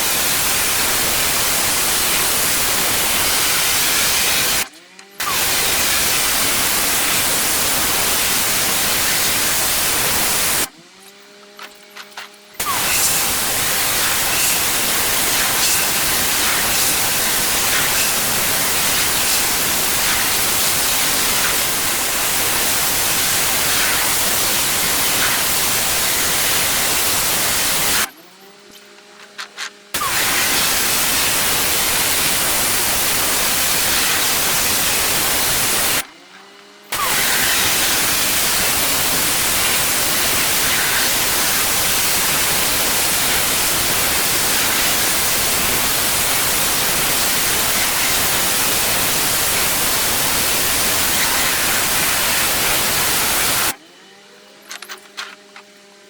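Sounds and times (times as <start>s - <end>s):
pressure washer jet hissing: 0.0s - 10.7s, 12.6s - 28.1s, 30.0s - 36.0s, 36.9s - 53.8s
motor and pump humming: 0.0s - 56.0s.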